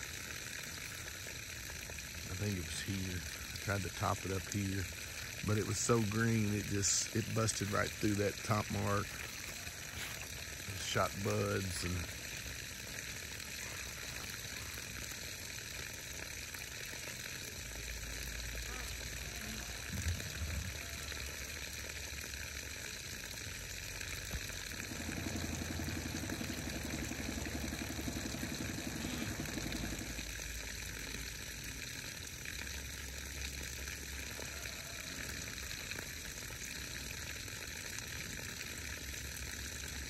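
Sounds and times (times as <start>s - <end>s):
water spraying from garden hose: 0.0s - 40.0s.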